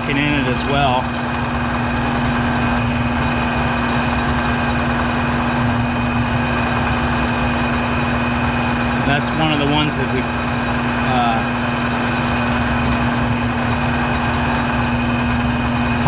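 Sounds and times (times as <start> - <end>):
drill press drilling steel: 0.0 - 16.0.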